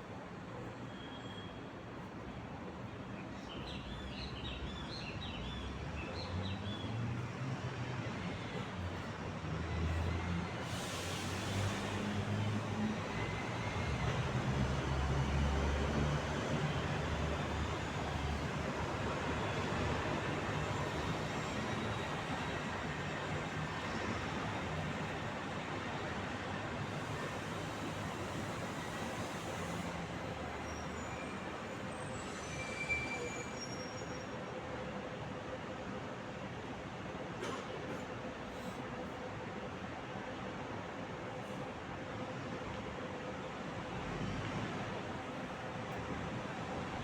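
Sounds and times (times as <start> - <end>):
city traffic rumble: 0.0 - 33.4, 34.2 - 47.0.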